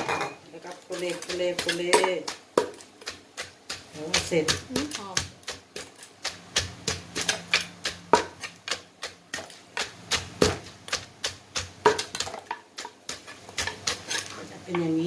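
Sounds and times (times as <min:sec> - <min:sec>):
metal spoon turning salad: 0:00.0 - 0:15.0
pestle pounding in wooden mortar: 0:00.7 - 0:15.0.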